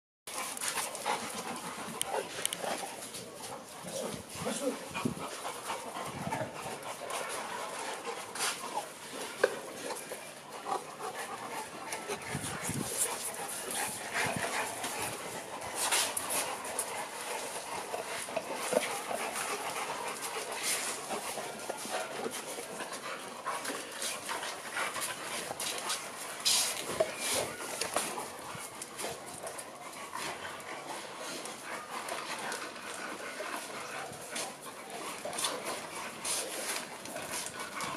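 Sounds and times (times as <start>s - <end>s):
dogs panting and whimpering: 0.3s - 37.9s.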